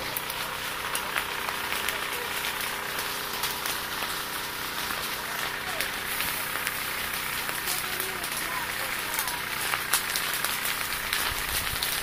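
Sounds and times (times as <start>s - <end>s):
grass and brush burning: 0.0s - 12.0s.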